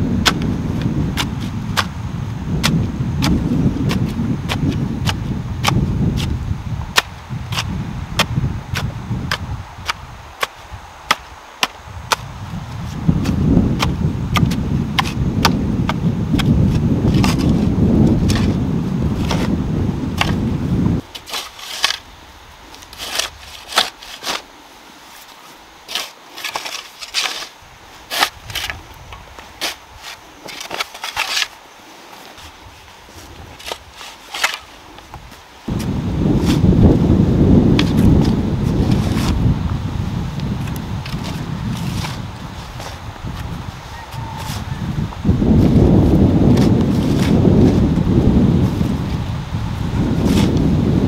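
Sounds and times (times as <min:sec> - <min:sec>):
hoes chopping dry soil: 0:00.1 - 0:22.1, 0:22.7 - 0:24.5, 0:25.2 - 0:31.6, 0:33.2 - 0:49.1, 0:50.0 - 0:51.0
shovel scraping soil: 0:02.6 - 0:18.6, 0:19.2 - 0:19.6, 0:21.1 - 0:22.1, 0:22.7 - 0:37.1, 0:37.7 - 0:39.5, 0:40.4 - 0:44.8, 0:45.5 - 0:49.0, 0:50.0 - 0:51.0.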